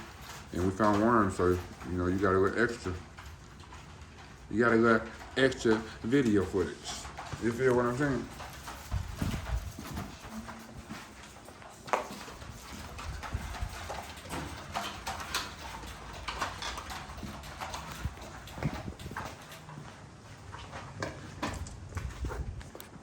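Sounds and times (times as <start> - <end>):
puppies moving about: 0.0 - 23.0.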